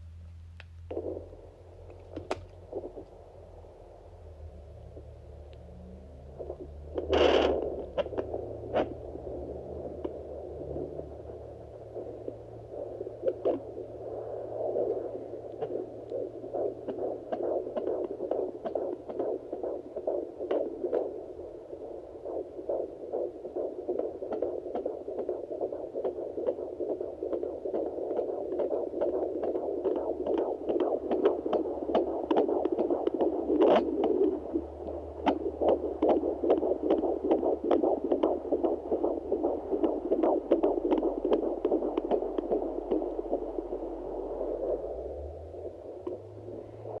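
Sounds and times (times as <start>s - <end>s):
fetal heartbeat whooshing pulse: 0.9s - 47.0s.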